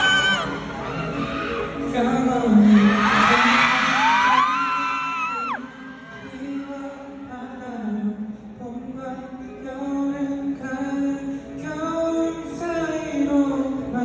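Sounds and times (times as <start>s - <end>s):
pop song over sound system: 0.0s - 14.0s.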